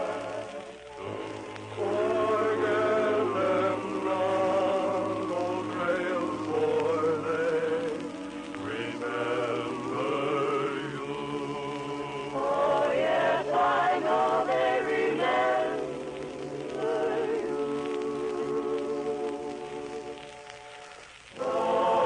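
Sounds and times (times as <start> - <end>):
vocal group singing in harmony: 0.0 - 22.0.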